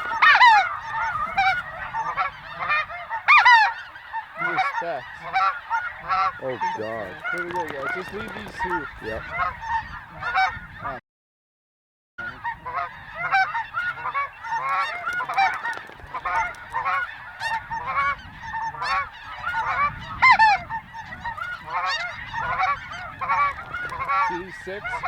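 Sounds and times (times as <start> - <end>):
geese honking: 0.0 - 11.0, 12.2 - 25.0.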